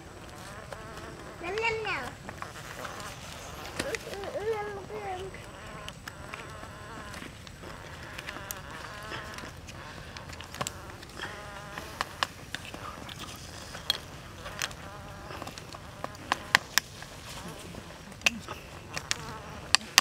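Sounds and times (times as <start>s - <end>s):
insect buzzing: 0.0s - 20.0s
steady hiss: 0.0s - 20.0s.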